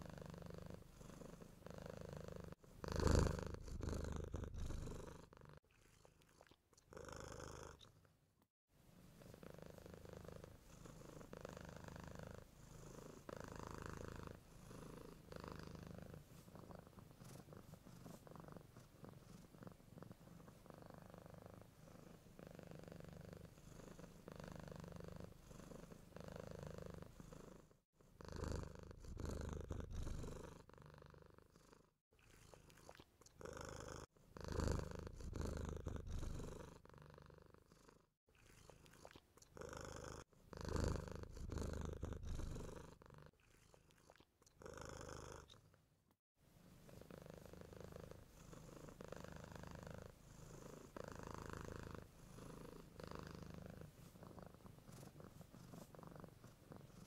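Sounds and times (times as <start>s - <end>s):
cat purring: 0.0s - 8.2s, 8.9s - 57.0s.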